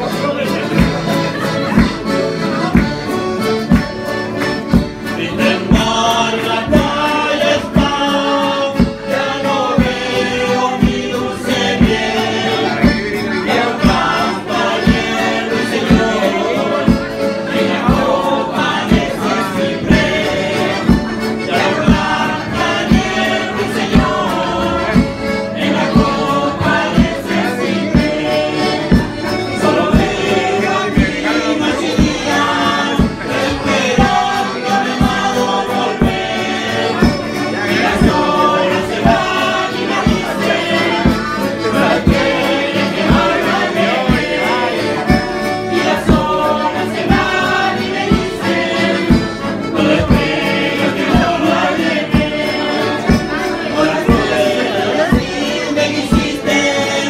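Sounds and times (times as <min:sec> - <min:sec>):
accordion: 0:00.0 - 0:57.0
acoustic guitar: 0:00.0 - 0:57.0
voices singing together: 0:00.0 - 0:57.0.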